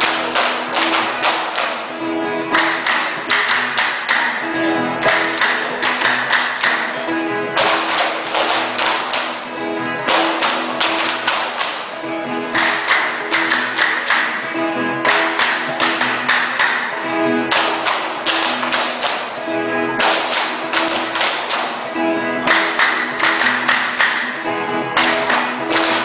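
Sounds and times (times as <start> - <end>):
percussive guitar strumming: 0.0 - 26.0.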